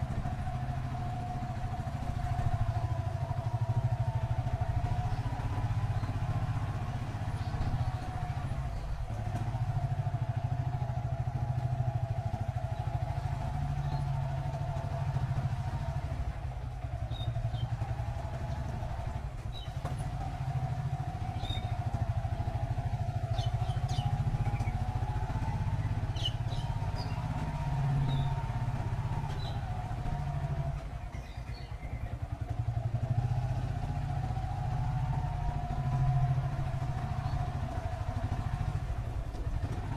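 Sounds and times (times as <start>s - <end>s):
high engine whine: 0.0s - 39.9s
motorcycle engine rumbling: 0.0s - 39.9s.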